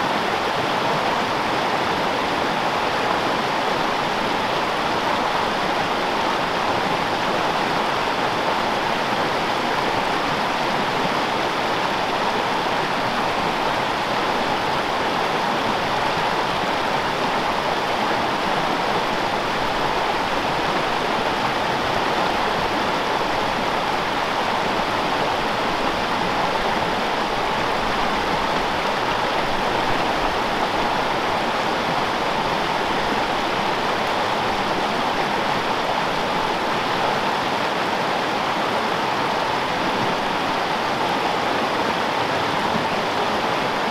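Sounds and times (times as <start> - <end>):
mountain stream rushing: 0.0 - 43.9.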